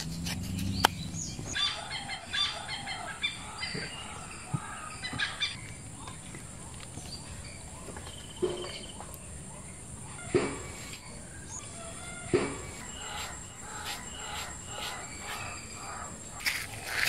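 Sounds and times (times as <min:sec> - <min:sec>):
birds chattering: 0:00.0 - 0:17.0.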